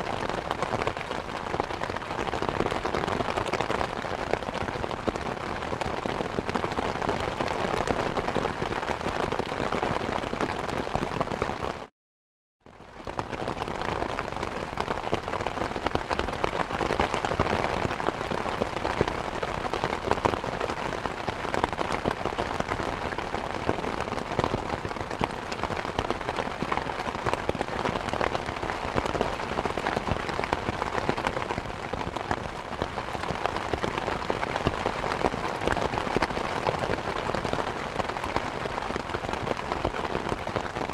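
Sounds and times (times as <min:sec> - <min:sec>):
heavy rain pouring: 0:00.0 - 0:11.9, 0:13.0 - 0:40.9.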